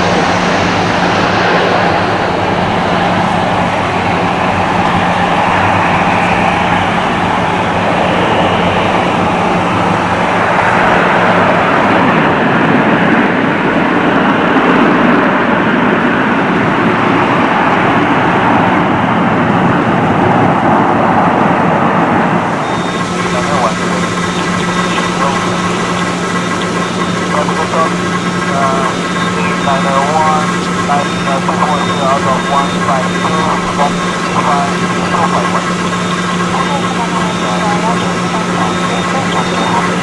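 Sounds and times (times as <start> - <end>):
jet engines roaring: 0.0 - 40.0
steady low hum: 0.0 - 40.0.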